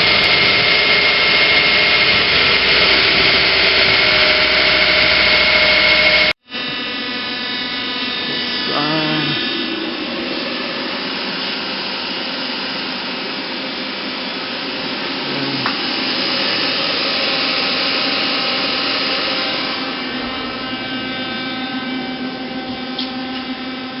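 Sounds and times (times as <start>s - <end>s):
lathe machine whine: 0.0s - 24.0s.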